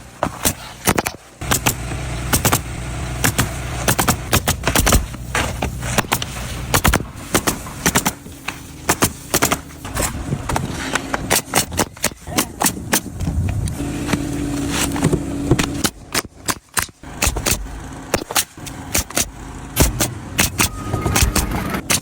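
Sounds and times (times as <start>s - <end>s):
sharp clicks and knocks: 0.3s - 14.2s, 14.8s - 22.0s
motor engine droning: 1.4s - 16.3s, 17.0s - 22.0s.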